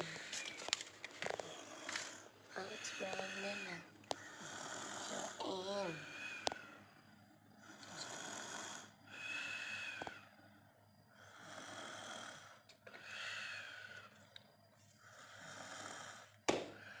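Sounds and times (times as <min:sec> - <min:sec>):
child snoring: 0:00.0 - 0:00.6, 0:01.2 - 0:06.9, 0:07.5 - 0:10.3, 0:11.1 - 0:14.2, 0:15.0 - 0:17.0.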